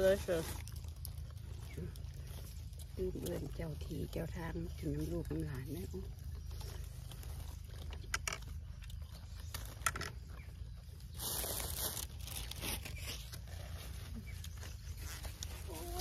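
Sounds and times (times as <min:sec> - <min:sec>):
crinkling rustle: 0:00.0 - 0:16.0
low hum: 0:00.0 - 0:16.0.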